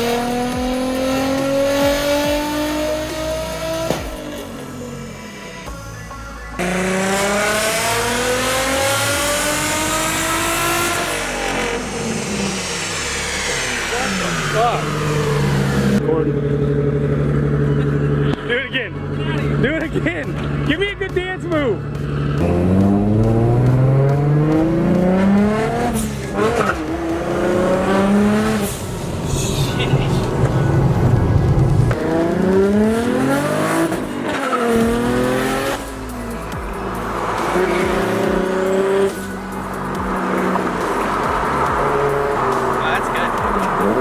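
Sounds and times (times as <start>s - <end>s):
car engine revving at full throttle: 0.0s - 5.4s, 6.6s - 44.0s.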